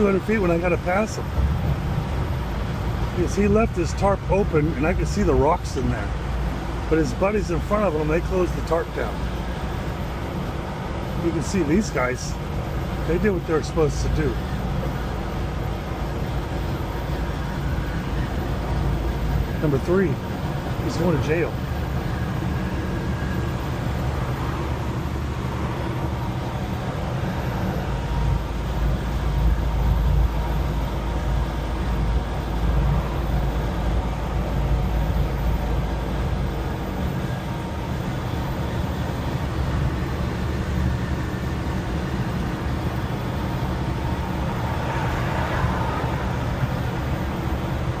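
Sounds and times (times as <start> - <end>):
road noise: 0.0 - 48.0
truck engine drone: 0.0 - 48.0.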